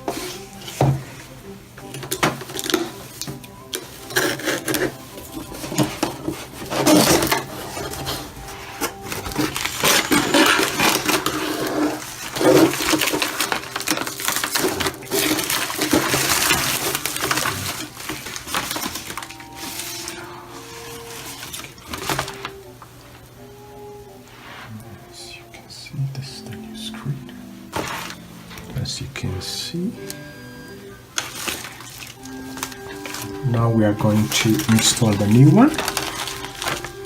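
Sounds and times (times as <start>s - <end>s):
packaging crinkling and rustling: 0.0s - 23.4s, 27.7s - 29.3s, 31.1s - 37.0s.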